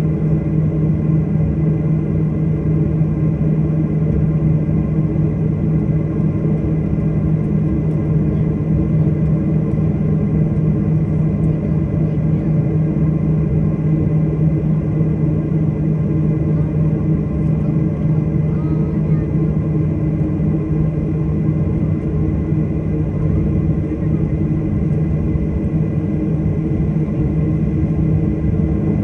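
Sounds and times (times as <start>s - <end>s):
airliner engines droning in cabin: 0.0s - 29.0s.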